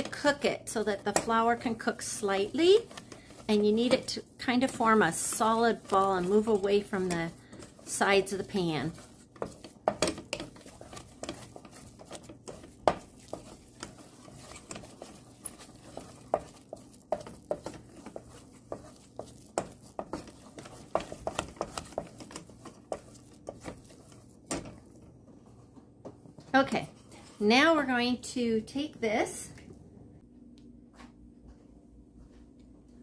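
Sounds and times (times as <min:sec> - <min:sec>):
wooden spoon scraping saucepan: 0:00.0 - 0:27.8.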